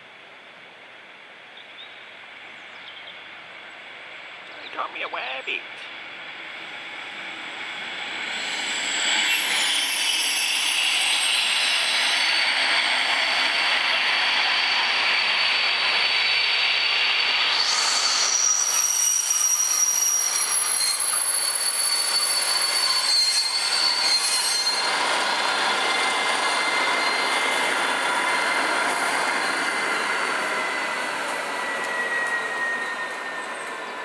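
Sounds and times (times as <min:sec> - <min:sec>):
diesel locomotive engine: 0:00.0 - 0:34.0
train wheels squealing: 0:06.5 - 0:34.0.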